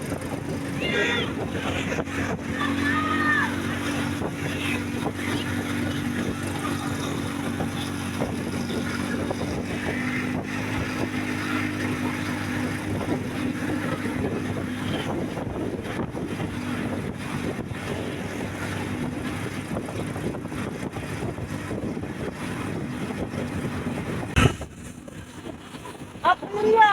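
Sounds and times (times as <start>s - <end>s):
wind on microphone: 0.0s - 26.9s.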